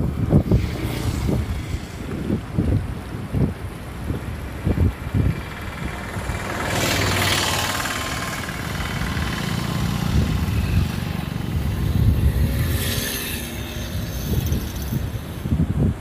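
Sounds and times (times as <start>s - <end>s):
rushing wind gusts: 0.0s - 16.0s
wind buffeting microphone: 0.0s - 16.0s.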